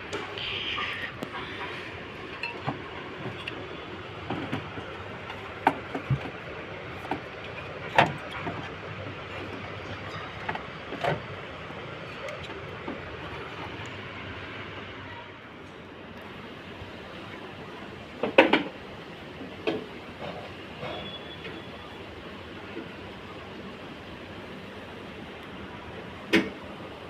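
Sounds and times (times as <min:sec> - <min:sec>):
steady background noise: 0:00.0 - 0:27.0.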